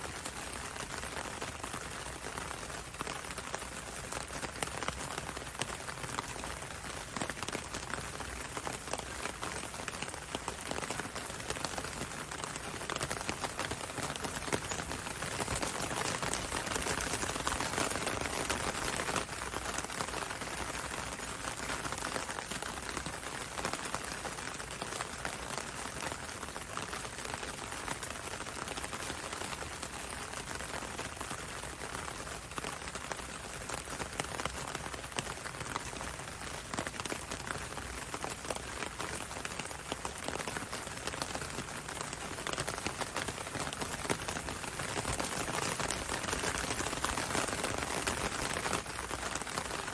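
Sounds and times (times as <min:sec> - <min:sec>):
gentle rain on window and road: 0:00.0 - 0:49.9.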